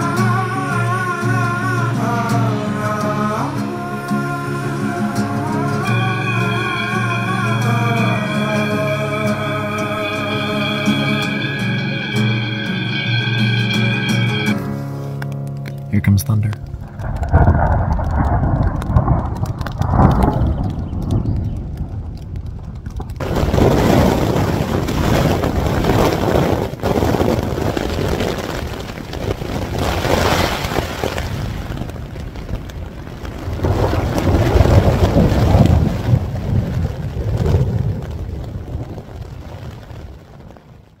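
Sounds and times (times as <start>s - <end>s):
thunder rumbling: 0.0s - 14.7s, 16.4s - 41.0s
storm noise rushing: 3.5s - 15.0s, 16.6s - 41.0s.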